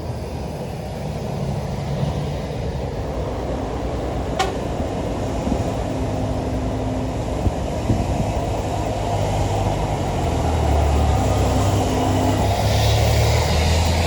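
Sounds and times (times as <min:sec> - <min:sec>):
heavy vehicle engine rumble: 0:00.0 - 0:14.0.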